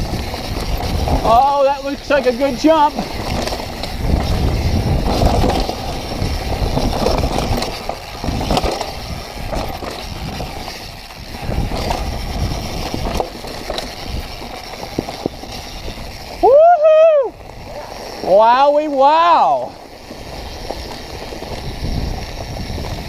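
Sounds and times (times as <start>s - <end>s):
bike knocking and rattling: 0.0s - 23.0s
bike tyres rolling on dirt: 0.0s - 23.0s.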